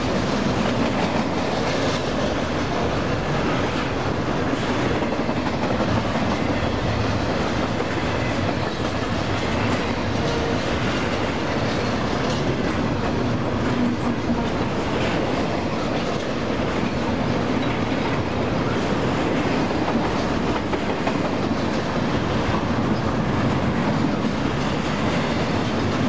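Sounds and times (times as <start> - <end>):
train wheels running over rails: 0.0 - 26.0.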